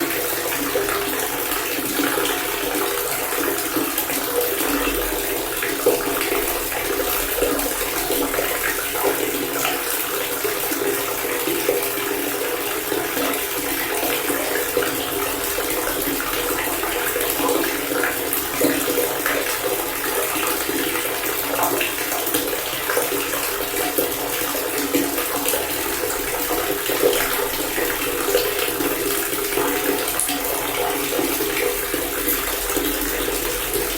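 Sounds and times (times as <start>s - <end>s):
water running from a faucet: 0.0s - 33.9s.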